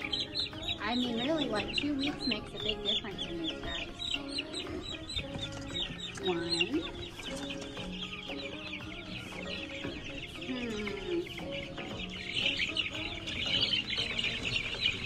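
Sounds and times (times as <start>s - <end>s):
chicks peeping and chirping: 0.0s - 15.0s.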